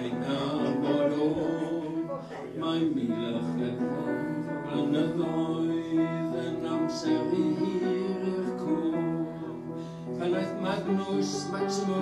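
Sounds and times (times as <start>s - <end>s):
song with instrumental accompaniment: 0.0s - 12.0s.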